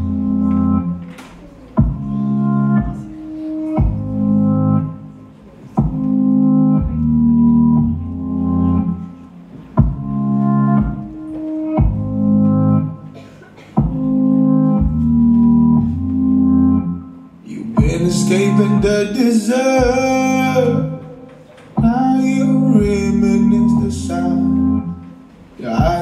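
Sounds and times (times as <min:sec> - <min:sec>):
organ-like keyboard chords: 0:00.0 - 0:26.0.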